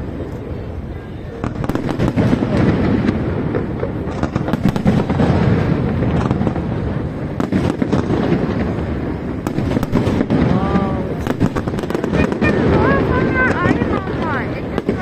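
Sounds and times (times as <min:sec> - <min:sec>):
fireworks bangs and crackles: 0:00.0 - 0:15.0
steady low rumble: 0:00.0 - 0:15.0.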